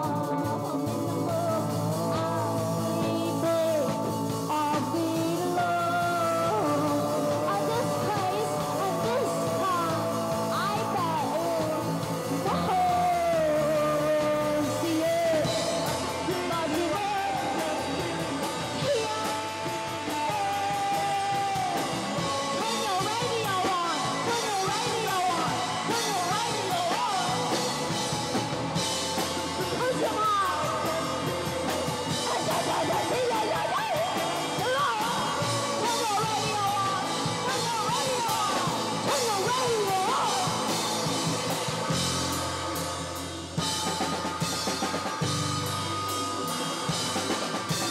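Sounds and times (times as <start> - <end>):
drum kit: 0.0 - 47.9
electric guitar: 0.0 - 47.9
person singing: 0.0 - 47.9.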